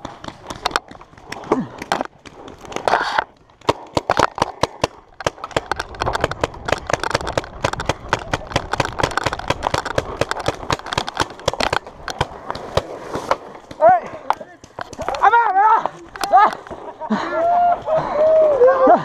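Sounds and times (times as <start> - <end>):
paintball markers popping: 0.0 - 15.5.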